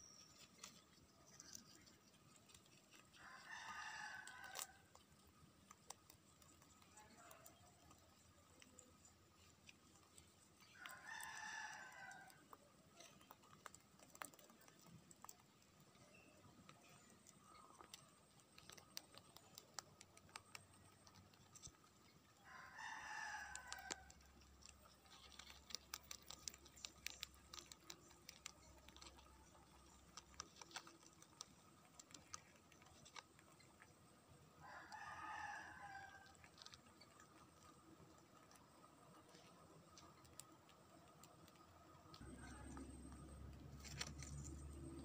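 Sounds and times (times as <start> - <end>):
rabbits chewing leaves: 0.0 - 45.0.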